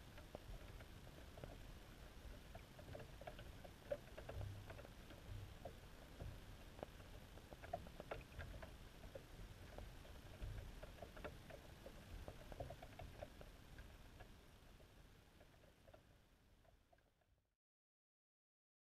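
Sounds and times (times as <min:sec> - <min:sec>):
underwater ticks and clicks: 0:00.0 - 0:17.4.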